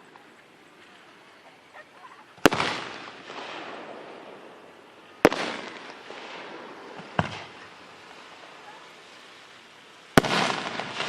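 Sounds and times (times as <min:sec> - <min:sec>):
fireworks bangs: 0:00.8 - 0:11.0.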